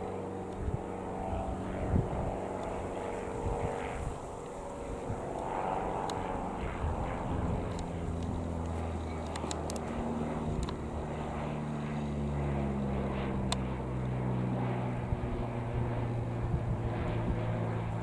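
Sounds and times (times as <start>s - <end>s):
propeller plane droning overhead: 0.0s - 18.0s.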